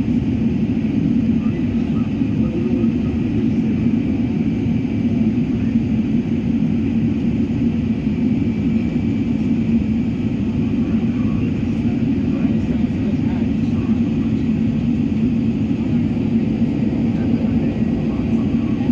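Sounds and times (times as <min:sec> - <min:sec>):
jet engines roaring in cabin: 0:00.0 - 0:18.9.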